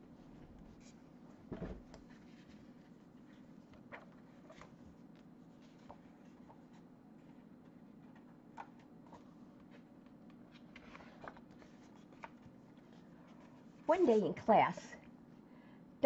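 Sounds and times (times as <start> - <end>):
low room hum: 0.0 - 16.0
book pages rustling and turning: 0.1 - 15.1.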